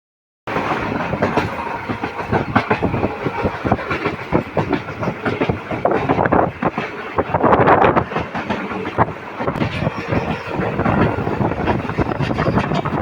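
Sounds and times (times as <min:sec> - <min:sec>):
train running noise: 0:00.5 - 0:13.0
train wheels clattering: 0:00.5 - 0:13.0.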